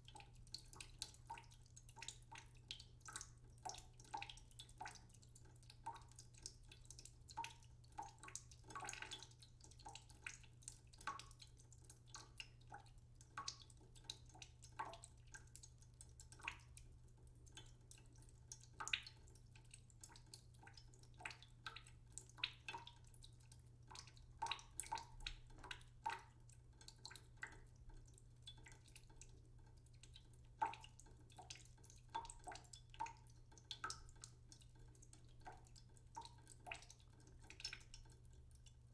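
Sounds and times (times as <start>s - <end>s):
water dripping into a pot: 0.0s - 38.9s.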